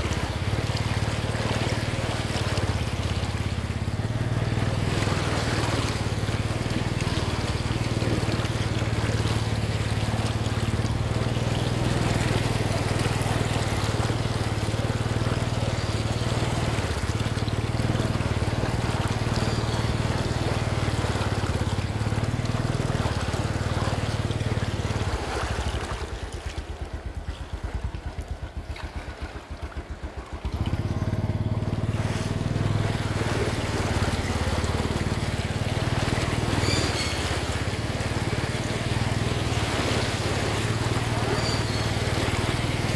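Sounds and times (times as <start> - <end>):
moped engine running: 0.0 - 42.9
wheel splashing water: 0.0 - 42.9.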